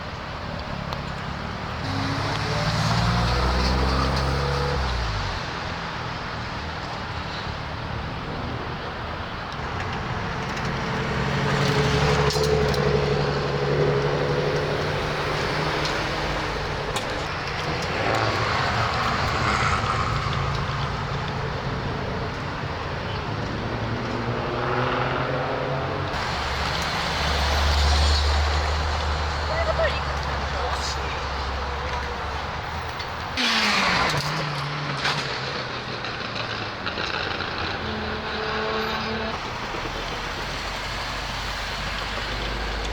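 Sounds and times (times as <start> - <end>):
car engines passing: 0.0 - 42.9.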